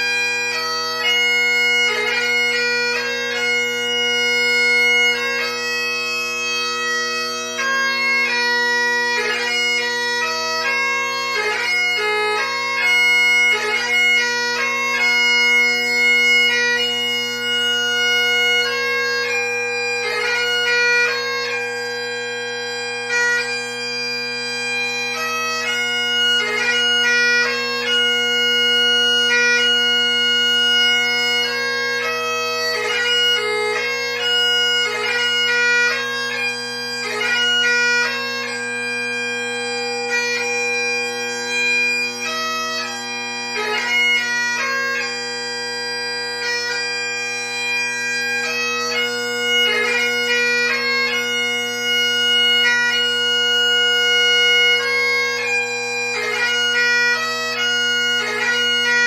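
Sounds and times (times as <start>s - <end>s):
bagpipe playing a lament: 0.0s - 59.0s.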